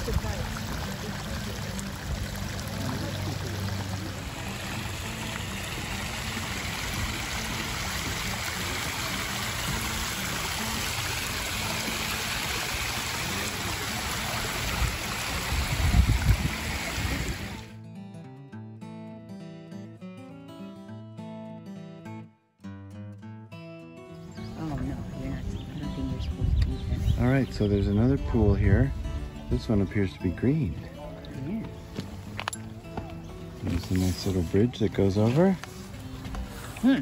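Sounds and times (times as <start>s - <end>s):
water flowing and trickling: 0.0s - 17.7s, 24.5s - 37.0s.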